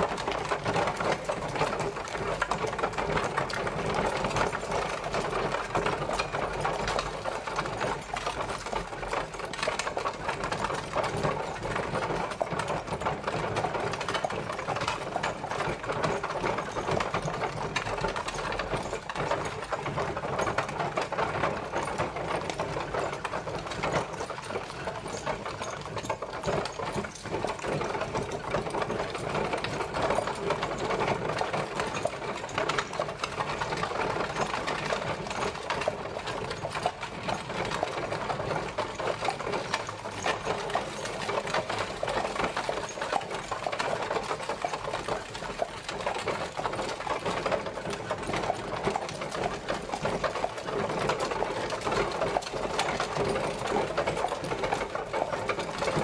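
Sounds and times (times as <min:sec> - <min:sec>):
carriage wheels rattling: 0:00.0 - 0:56.0.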